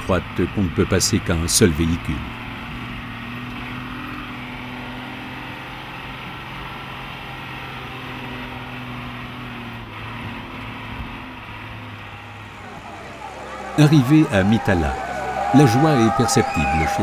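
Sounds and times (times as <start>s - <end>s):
road noise: 0.0s - 17.0s
truck engine running: 0.0s - 17.0s.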